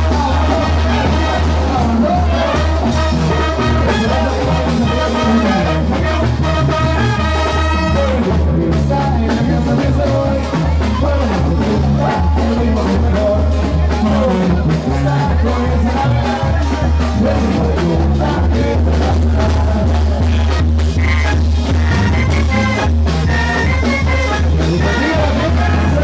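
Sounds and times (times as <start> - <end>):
brass band playing loudly: 0.0 - 26.0
steady bass pulse: 0.0 - 26.0.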